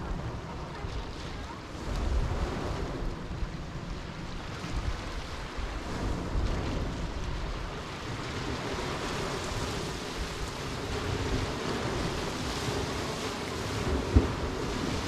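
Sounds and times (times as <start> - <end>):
waves washing onto pebbles: 0.0 - 15.0
wind buffeting microphone: 0.0 - 15.0.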